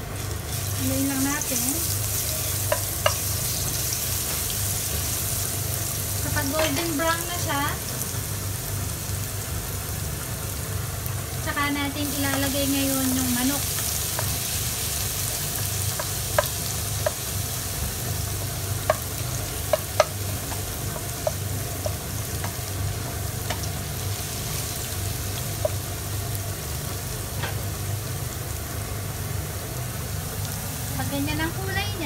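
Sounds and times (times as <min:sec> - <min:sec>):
garlic sizzling in oil: 0:00.0 - 0:32.0.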